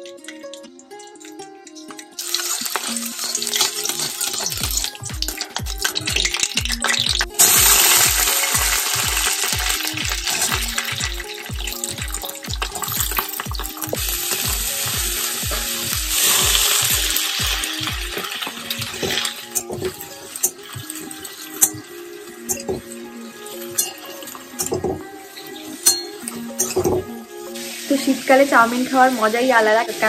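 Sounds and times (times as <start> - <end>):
background music with steady beat: 0.0 - 30.0
vegetables sizzling in hot oil: 2.2 - 30.0.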